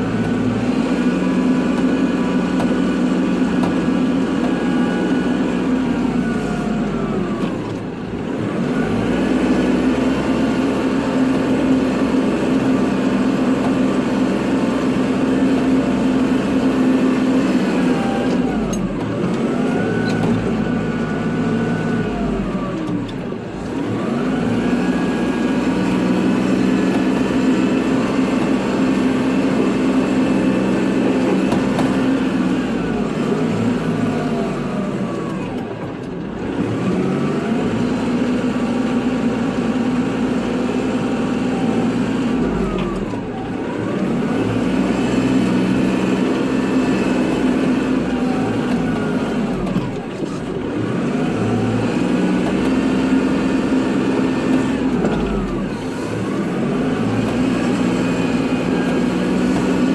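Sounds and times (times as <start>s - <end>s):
high engine whine: 0.0s - 59.9s
tractor diesel engine running: 0.0s - 59.9s.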